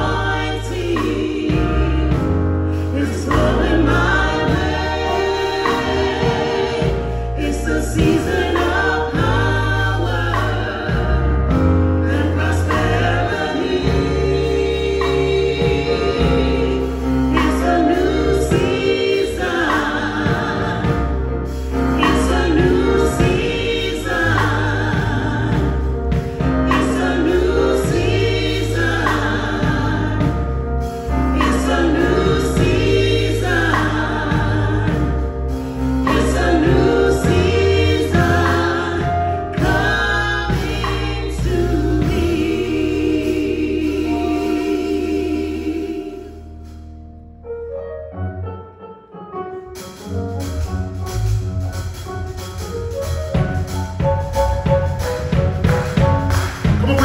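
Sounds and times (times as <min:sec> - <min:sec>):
gospel choir singing: 0:00.0 - 0:47.1, 0:49.8 - 0:57.0
sustained bass notes: 0:00.0 - 0:48.5, 0:49.7 - 0:57.0.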